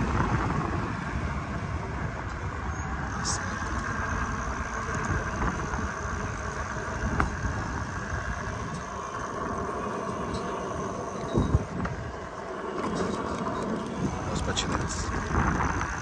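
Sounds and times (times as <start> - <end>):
low uneven rumble: 0.0 - 16.0
passing cars: 0.0 - 16.0.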